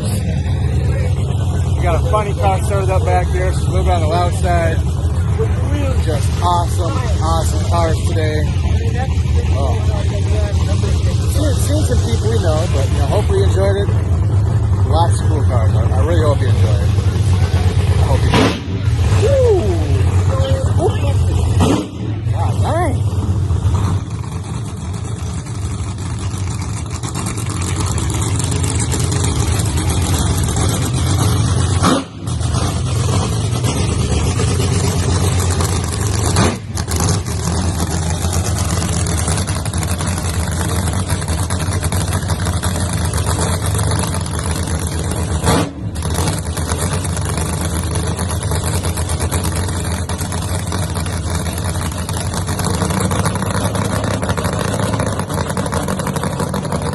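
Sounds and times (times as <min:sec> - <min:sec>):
drag racing engine idling: 0:00.0 - 0:56.9.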